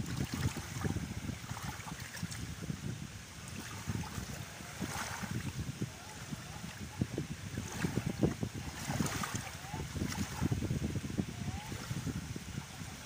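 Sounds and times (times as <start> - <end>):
small waves lapping on shore: 0.0 - 13.0
wind buffeting microphone: 0.0 - 13.0.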